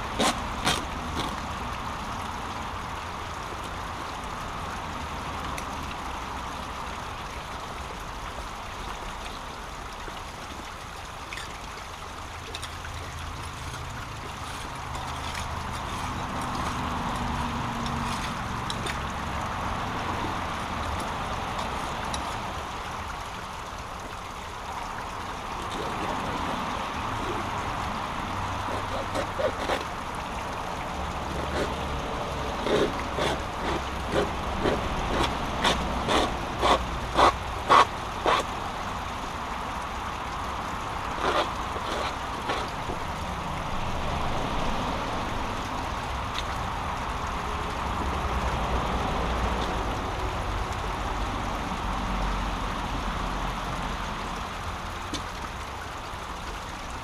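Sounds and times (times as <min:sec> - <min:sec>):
brook water rushing: 0:00.0 - 0:57.0.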